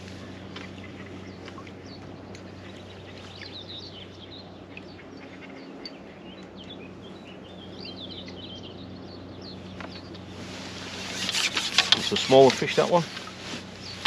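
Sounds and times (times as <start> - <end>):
outdoor background noise: 0.0 - 14.0
small birds chirping: 0.0 - 14.0
steady low hum: 0.0 - 14.0.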